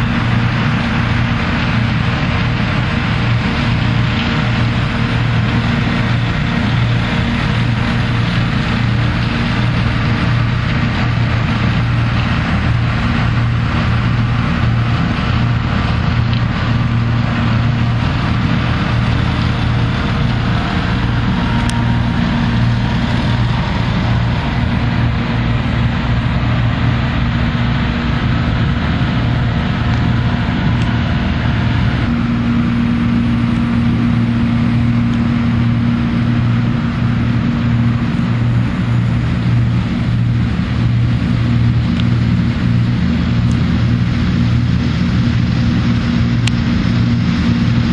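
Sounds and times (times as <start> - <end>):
combine harvester engine drone: 0.0 - 47.9
higher mechanical hum: 0.0 - 47.9.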